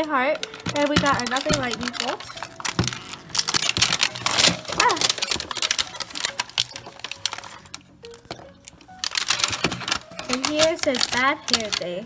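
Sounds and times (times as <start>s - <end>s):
packaging crackling and rustling: 0.0s - 12.0s.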